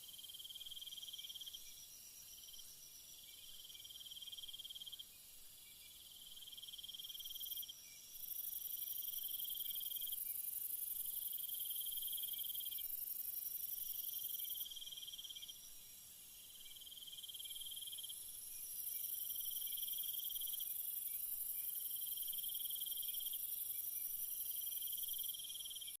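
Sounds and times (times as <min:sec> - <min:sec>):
low pulsing insect chirp: 0:00.0 - 0:26.0.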